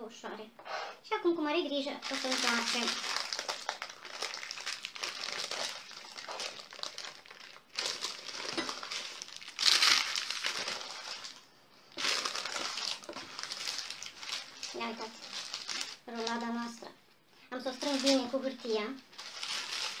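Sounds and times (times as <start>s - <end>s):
baking paper crinkling: 2.0s - 16.8s, 17.6s - 20.0s.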